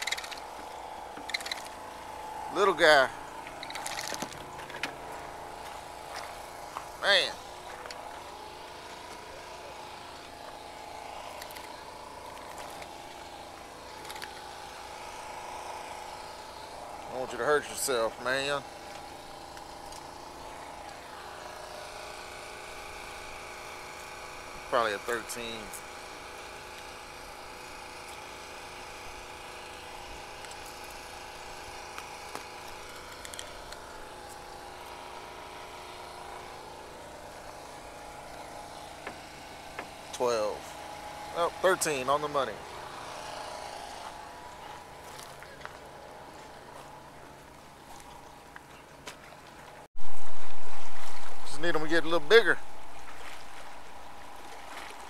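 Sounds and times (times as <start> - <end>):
engine humming steadily: 0.0 - 55.0.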